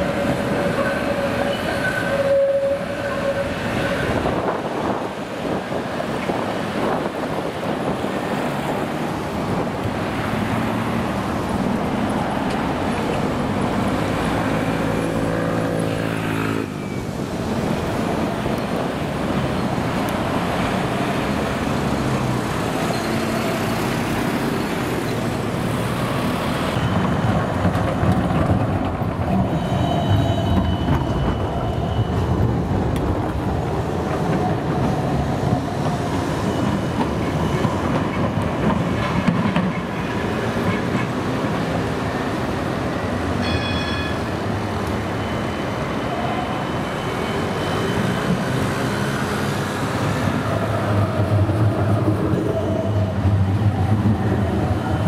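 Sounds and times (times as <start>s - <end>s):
tram wheel squeal: 0.0s - 10.8s, 11.4s - 33.0s, 33.7s - 55.0s
road traffic passing: 0.0s - 55.0s
trams running on track: 0.0s - 55.0s.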